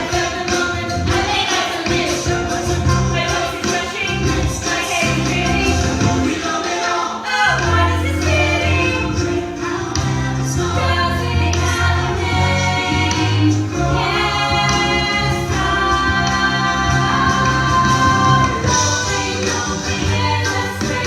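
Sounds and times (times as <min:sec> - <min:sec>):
group of voices singing: 0:00.0 - 0:21.0
instrumental accompaniment: 0:00.0 - 0:21.0.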